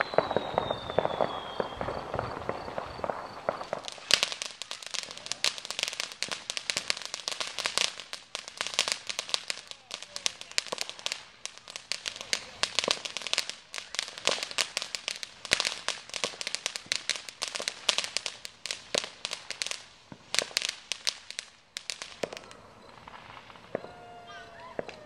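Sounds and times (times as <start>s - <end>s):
firework fountain crackling: 0.0s - 25.0s.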